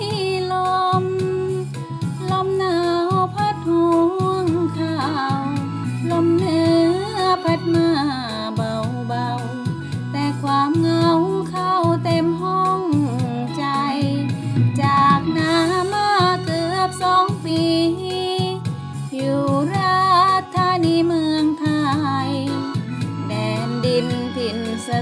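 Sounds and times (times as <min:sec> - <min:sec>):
song with wavering melody: 0:00.0 - 0:25.0.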